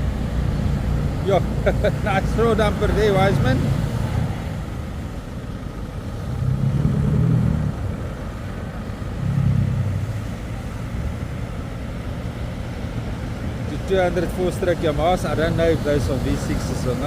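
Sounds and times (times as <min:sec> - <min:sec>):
outboard engines rumbling: 0:00.0 - 0:17.0.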